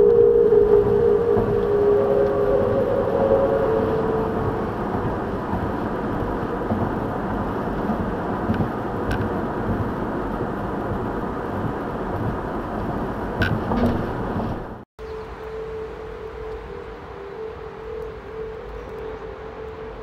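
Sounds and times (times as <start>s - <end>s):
railings humming in wind: 0.0s - 20.0s
road and wind noise in car: 0.0s - 20.0s.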